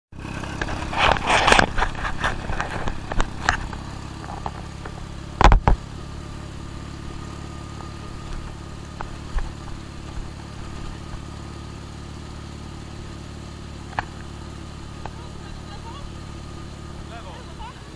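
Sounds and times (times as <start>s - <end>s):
motorcycle engine running: 0.1s - 17.9s
motorcycle clattering over ruts: 0.2s - 17.9s.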